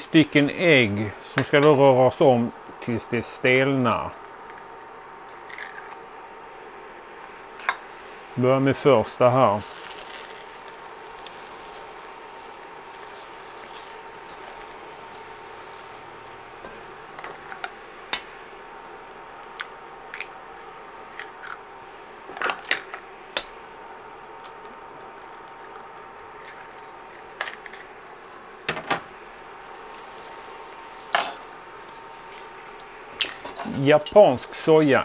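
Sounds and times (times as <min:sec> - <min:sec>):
food frying hiss: 0:02.8 - 0:33.5.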